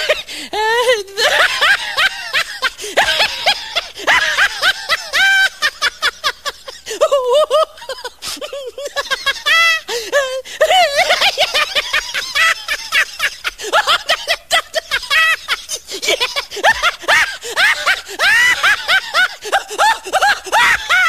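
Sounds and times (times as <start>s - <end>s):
high-pitched snickering laughter: 1.1s - 21.0s.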